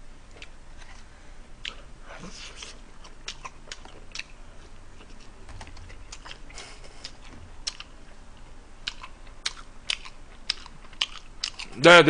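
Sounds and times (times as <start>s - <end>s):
faint low hum: 0.0s - 12.0s
person chewing food: 0.2s - 11.8s.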